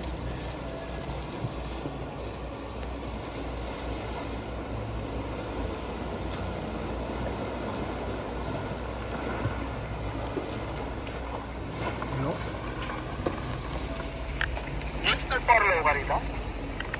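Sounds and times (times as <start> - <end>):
car engine running: 0.0 - 16.9
tyre and road noise: 0.0 - 16.9.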